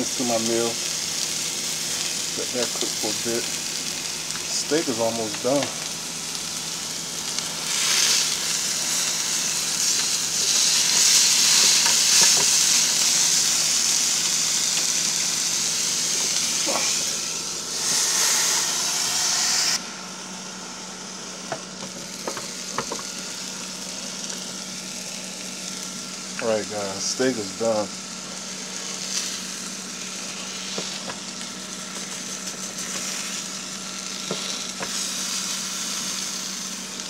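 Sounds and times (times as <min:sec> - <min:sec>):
meat and onions sizzling on grill: 0:00.0 - 0:37.0.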